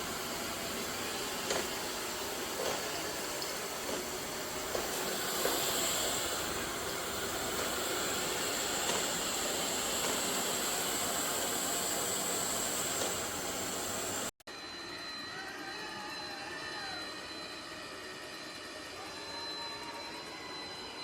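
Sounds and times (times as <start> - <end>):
robot vacuum hiss and whine: 0.0 - 21.0.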